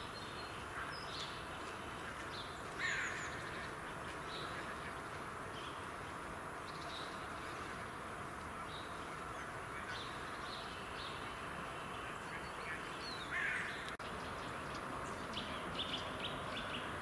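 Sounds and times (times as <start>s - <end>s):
bird calls: 0.0s - 17.0s
outdoor background hiss: 0.0s - 17.0s.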